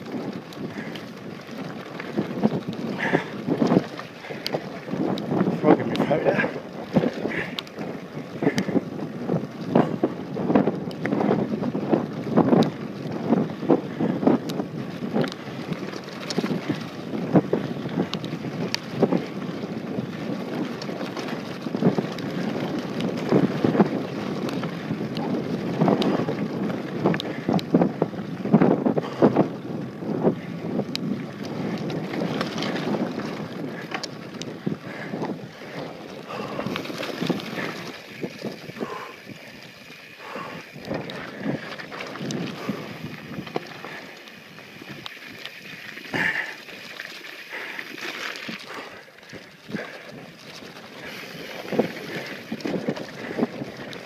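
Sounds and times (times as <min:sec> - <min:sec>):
bike rattling: 0:00.0 - 0:54.0
bike tyres rolling on dirt: 0:00.0 - 0:54.0
wind buffeting microphone: 0:00.0 - 0:54.0.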